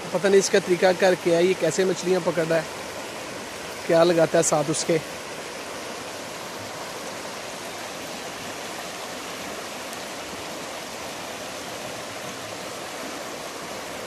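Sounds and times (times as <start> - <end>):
river rushing over stones: 0.0 - 14.0.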